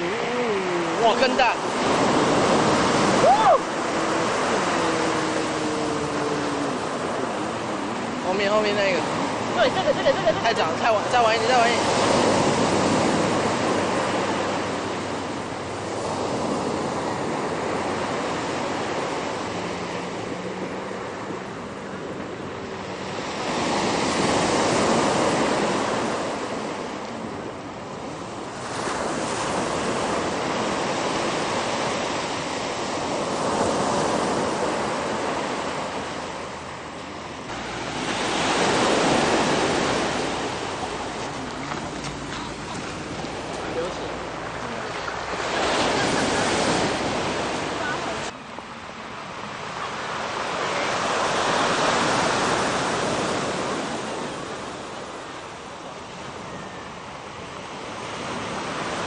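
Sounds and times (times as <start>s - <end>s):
ocean surf breaking on shore: 0.0s - 59.0s.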